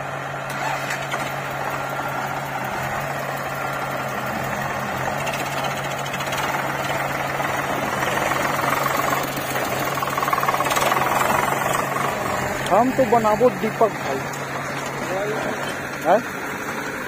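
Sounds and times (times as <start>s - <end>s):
diesel engines clattering: 0.0s - 17.0s.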